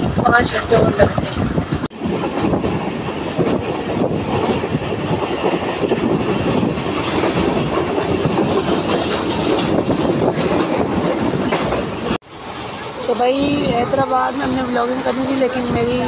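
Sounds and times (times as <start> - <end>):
train rumble: 0.0 - 16.0
wheels clattering over rail joints: 0.0 - 16.0.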